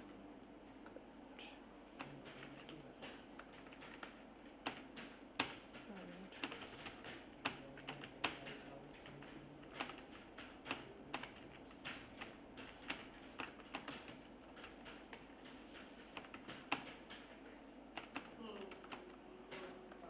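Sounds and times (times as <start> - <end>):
typing on computer keyboard: 2.0 - 20.0.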